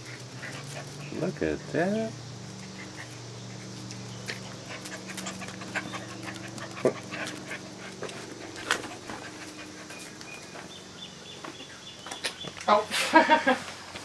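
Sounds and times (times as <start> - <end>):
puppies panting and scuffling: 0.0 - 12.7.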